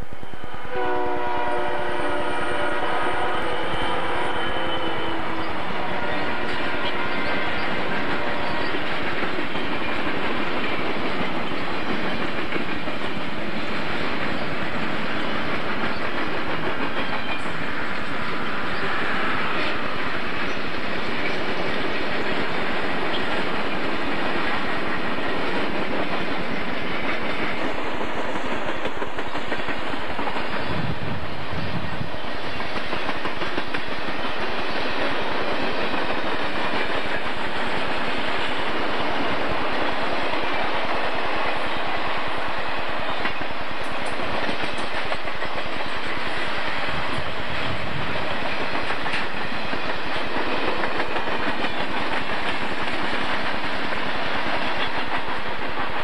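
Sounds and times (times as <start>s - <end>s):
rumble of wheels on rail: 0.0s - 56.0s
clickety-clack over rail joints: 5.3s - 56.0s.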